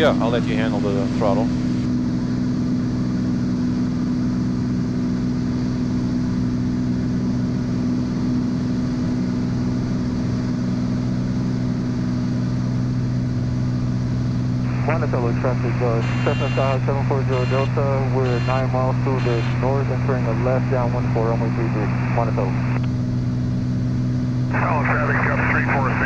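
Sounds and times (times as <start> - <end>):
propeller plane engine drone in cabin: 0.0 - 26.0.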